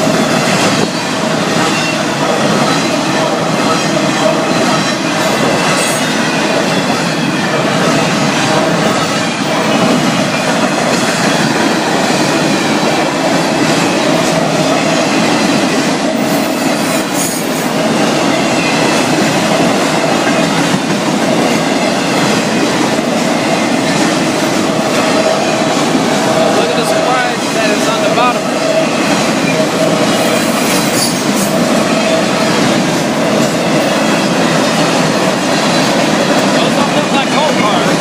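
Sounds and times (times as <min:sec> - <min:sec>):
freight train wheels clattering: 0:00.0 - 0:38.0.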